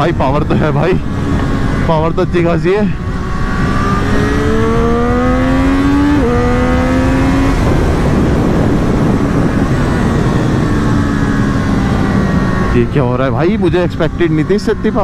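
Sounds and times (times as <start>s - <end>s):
motorcycle engine accelerating: 0.0s - 15.0s
wind noise: 0.0s - 15.0s.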